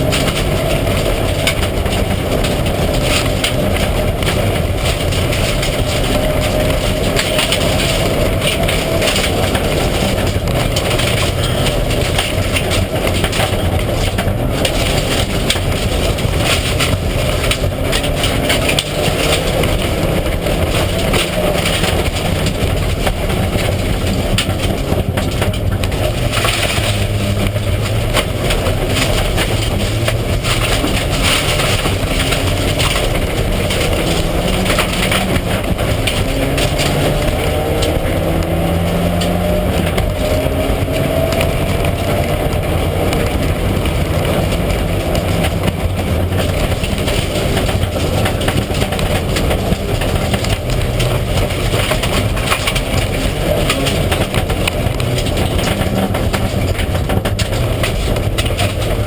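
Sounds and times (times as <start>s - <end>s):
car engine revving: 0.0s - 59.0s
loud road noise: 0.0s - 59.0s.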